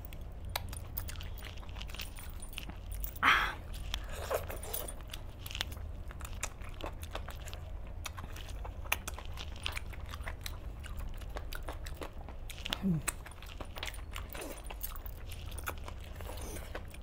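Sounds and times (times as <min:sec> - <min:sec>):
chewing with wet smacks: 0:00.0 - 0:17.0
steady low hum: 0:00.0 - 0:17.0.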